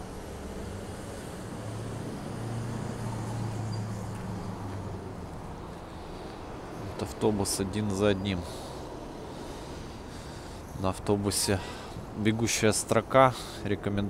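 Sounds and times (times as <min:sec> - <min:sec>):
bus engine drone: 0:00.0 - 0:14.0
city street traffic: 0:00.0 - 0:14.0.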